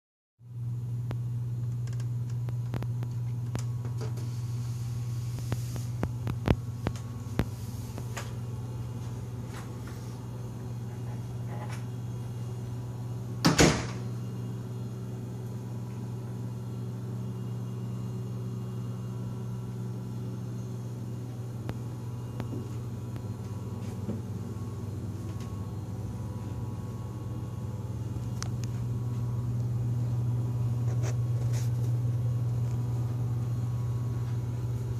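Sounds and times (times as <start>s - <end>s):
steady low hum: 0.4s - 34.9s.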